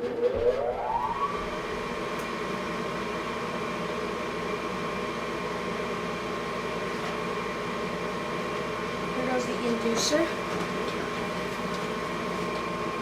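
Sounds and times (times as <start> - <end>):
furnace motor whining and humming: 0.0 - 13.0.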